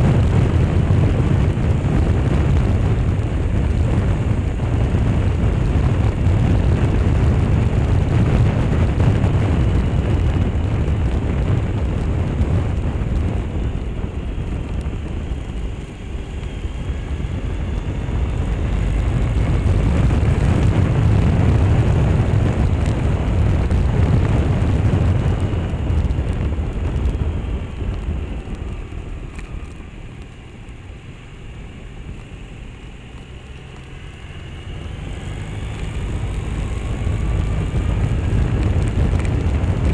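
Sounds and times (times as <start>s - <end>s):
motorbike engine: 0.0s - 39.9s
road noise: 0.0s - 39.9s
wind buffeting microphone: 0.0s - 39.9s.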